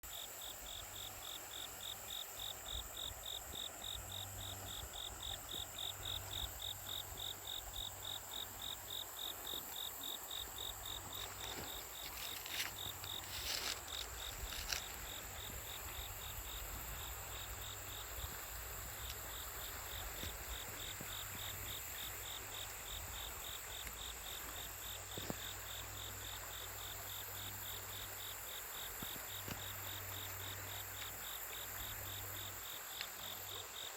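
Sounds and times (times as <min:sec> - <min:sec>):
crickets chirping: 0:00.0 - 0:33.9
flowing water: 0:00.0 - 0:33.9
high insect trill: 0:00.1 - 0:33.9.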